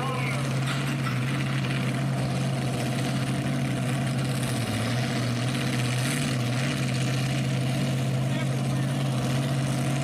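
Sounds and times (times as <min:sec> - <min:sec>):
truck engine at high revs: 0:00.0 - 0:10.0.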